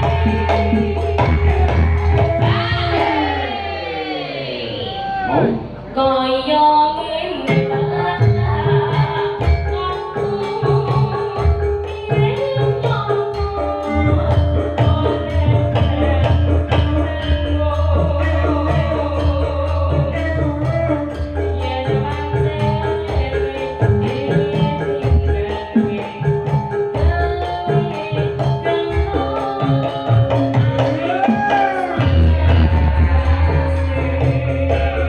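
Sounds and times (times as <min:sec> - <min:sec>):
person singing: 0:00.0 - 0:35.0.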